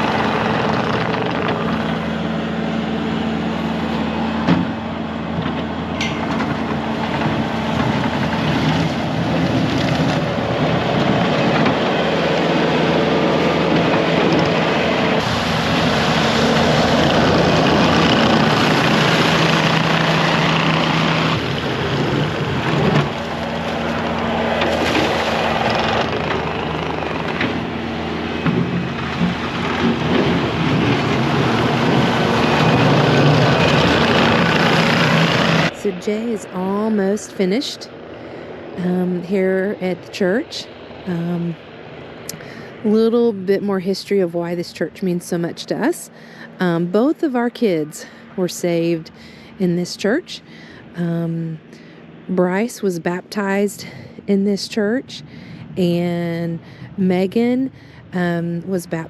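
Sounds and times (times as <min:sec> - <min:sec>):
loader engine running: 0:00.0 - 0:59.0.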